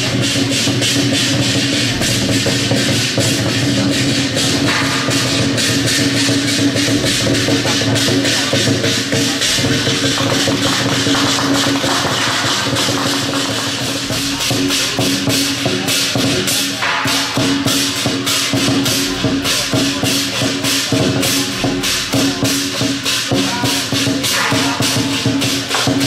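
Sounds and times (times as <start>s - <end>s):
rapid percussion strikes: 0.0s - 26.0s.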